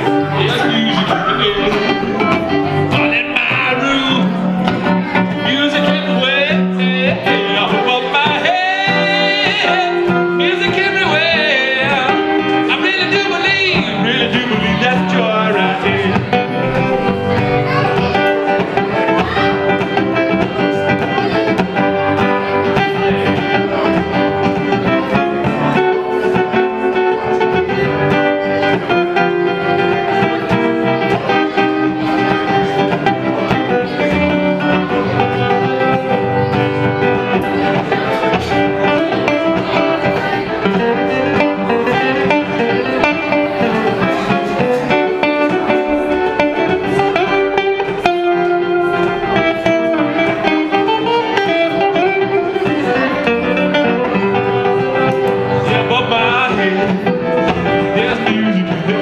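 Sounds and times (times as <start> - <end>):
acoustic guitar: 0.0 - 59.0
person singing: 0.0 - 59.0.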